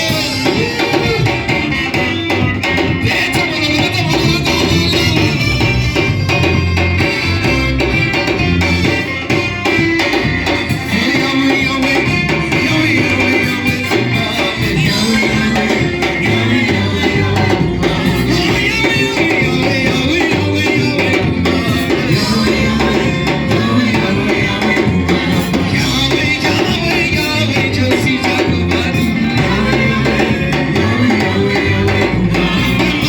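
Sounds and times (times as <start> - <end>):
church worship music: 0.0 - 33.0
drums: 0.0 - 33.0
people singing: 0.0 - 33.0.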